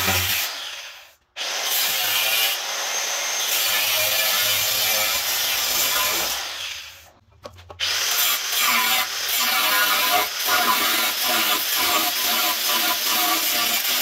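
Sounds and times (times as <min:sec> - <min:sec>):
angle grinder cutting steel: 0:00.0 - 0:07.1, 0:07.8 - 0:14.0.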